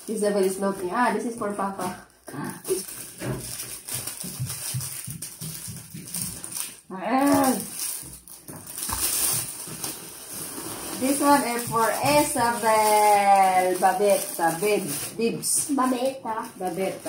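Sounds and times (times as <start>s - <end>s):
plastic packaging rustling: 0.0s - 17.0s.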